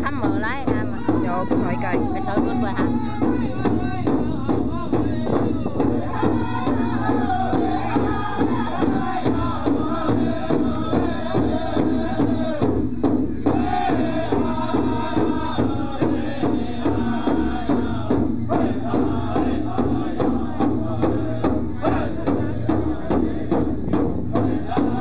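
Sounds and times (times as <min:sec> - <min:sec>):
large drum beat: 0:00.0 - 0:25.0
singers chanting: 0:00.0 - 0:25.0.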